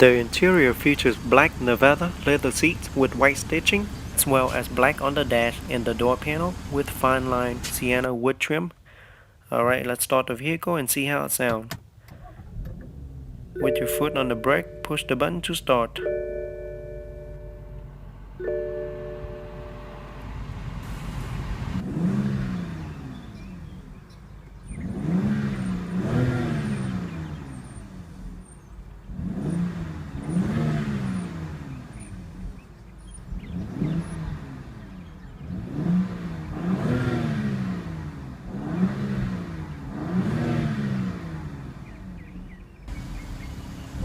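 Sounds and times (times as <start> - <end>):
car engine idling and revving: 0.0 - 8.1, 11.8 - 44.0.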